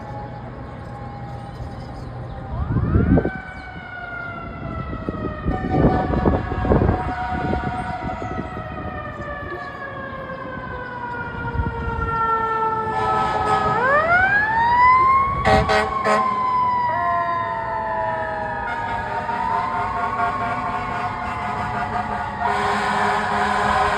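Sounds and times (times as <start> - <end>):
siren blasts: 0.0 - 23.9.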